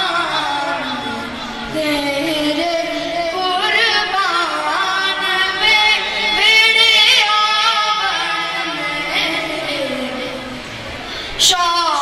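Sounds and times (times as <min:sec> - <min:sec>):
boy singing unaccompanied: 0:00.0 - 0:10.6, 0:11.4 - 0:12.0.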